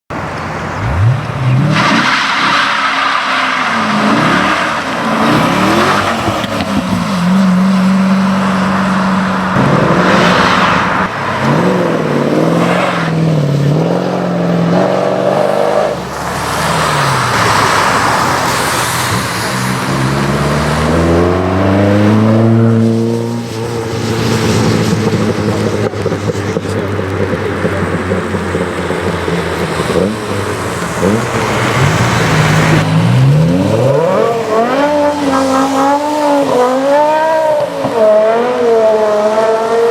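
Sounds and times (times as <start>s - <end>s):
car engines revving: 0.1s - 39.9s.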